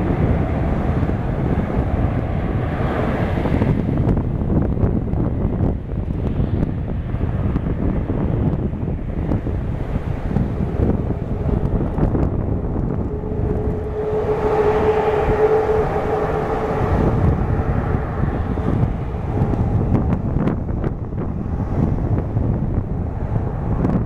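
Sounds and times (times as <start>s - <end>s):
jet engines passing: 0.0s - 24.0s
wind rumble on microphone: 0.0s - 24.0s.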